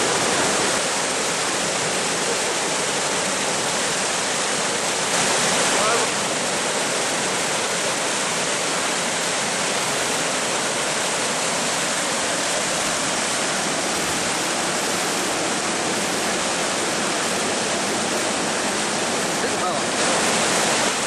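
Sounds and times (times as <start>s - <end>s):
rapids rushing over rocks: 0.0s - 21.0s.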